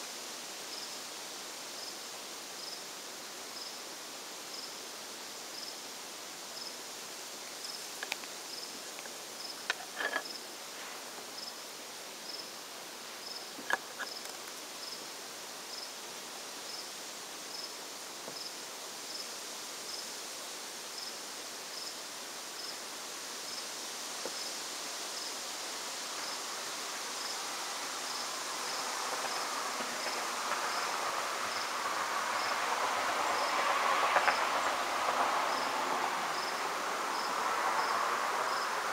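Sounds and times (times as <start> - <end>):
high hiss of insect song: 0.0 - 38.9
insect chirping: 0.0 - 38.9.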